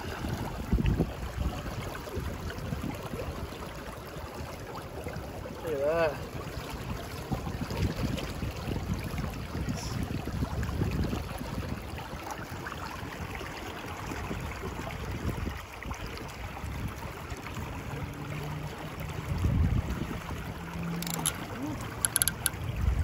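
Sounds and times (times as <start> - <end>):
river water rushing and splashing: 0.0 - 23.0.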